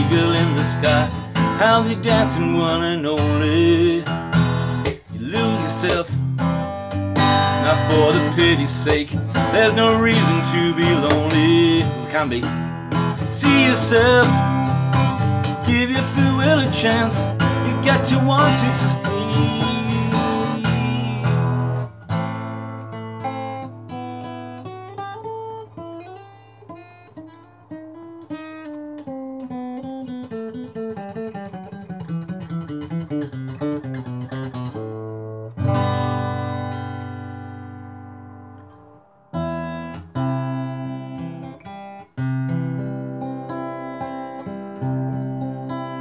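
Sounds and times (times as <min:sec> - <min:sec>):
acoustic guitar picked notes: 0:00.0 - 0:46.0
acoustic guitar strummed chords: 0:00.0 - 0:46.0.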